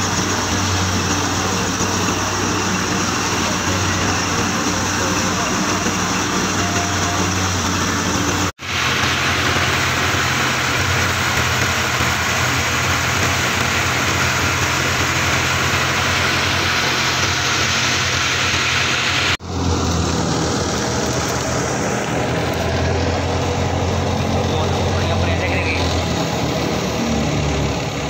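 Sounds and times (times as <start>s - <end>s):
thresher engine hum: 0.0s - 28.0s.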